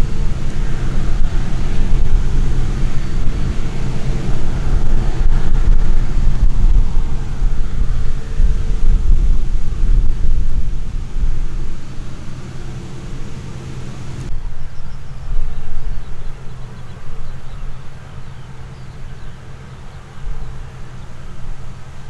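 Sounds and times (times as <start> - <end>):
combine harvester engine and threshing: 0.0 - 22.0.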